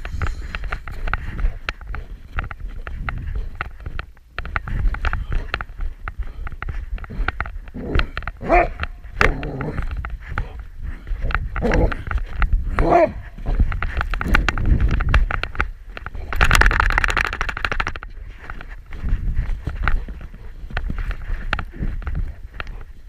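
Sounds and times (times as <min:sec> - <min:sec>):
camera thumping and rubbing: 0:00.0 - 0:23.0.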